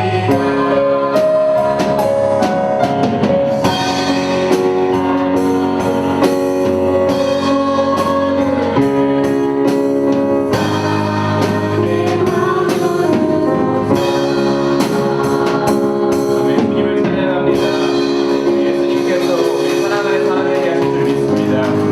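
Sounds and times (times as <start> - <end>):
drum kit: 0.0 - 21.9
gospel band playing: 0.0 - 21.9
keyboard chords: 0.0 - 21.9
people singing: 0.0 - 21.9.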